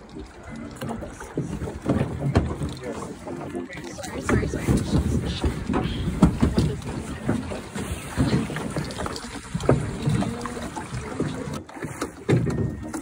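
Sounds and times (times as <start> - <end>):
water lapping at boat hull: 0.0 - 13.0.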